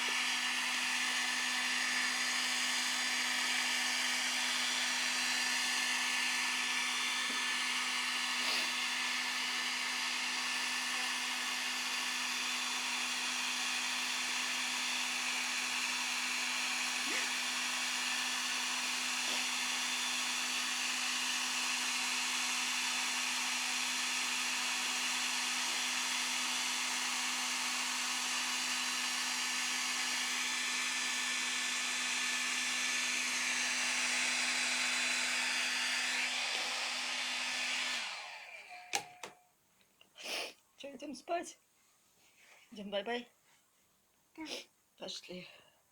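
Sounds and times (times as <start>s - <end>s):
hair dryer blowing: 0.0s - 39.4s.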